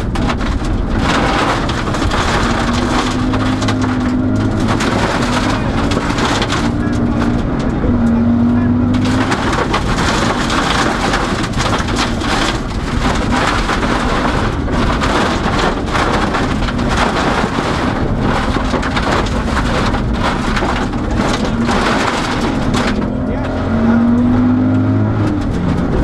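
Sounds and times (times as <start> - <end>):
gravel pelting car underbody: 0.0 - 26.0.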